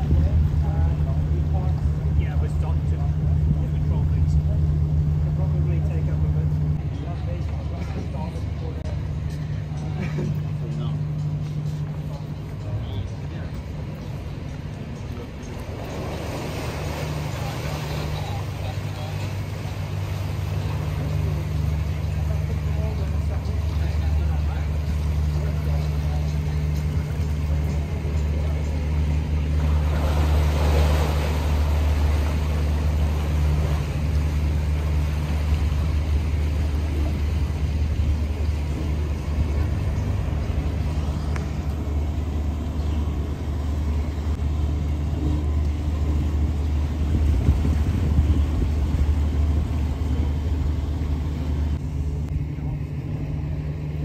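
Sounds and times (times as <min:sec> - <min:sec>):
boat diesel engines humming: 0:00.0 - 0:54.0
churning water rush: 0:00.0 - 0:54.0.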